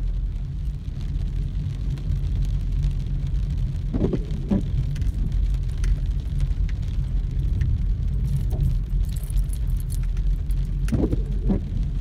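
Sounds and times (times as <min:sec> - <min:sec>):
engine and tyres rumbling: 0:00.0 - 0:12.0
rain ticking on car: 0:00.0 - 0:12.0.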